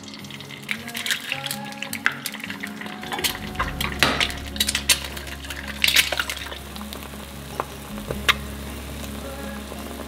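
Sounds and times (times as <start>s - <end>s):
eggs frying in a pan: 0.0s - 10.0s.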